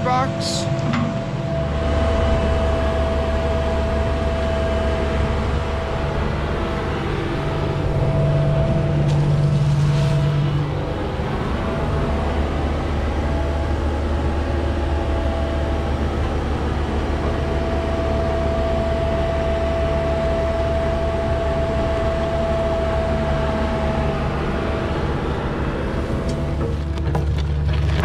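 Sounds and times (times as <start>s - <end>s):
diesel engine humming: 0.0s - 28.0s
steady engine whine: 0.0s - 28.0s.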